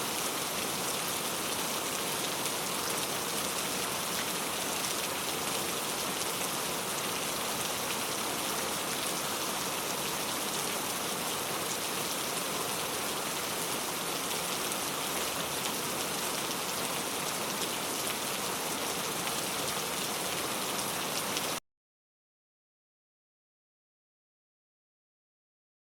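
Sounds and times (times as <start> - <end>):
steady rain falling: 0.0 - 21.6.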